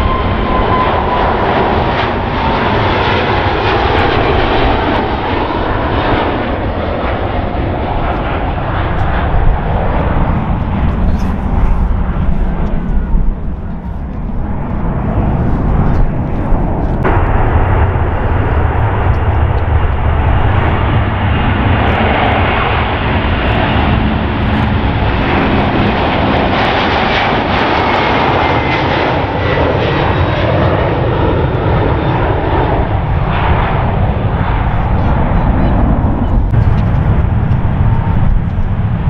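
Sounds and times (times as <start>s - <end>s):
another jet airliner climbing: 0.0s - 39.0s
jet airliner takeoff roar: 0.0s - 39.0s.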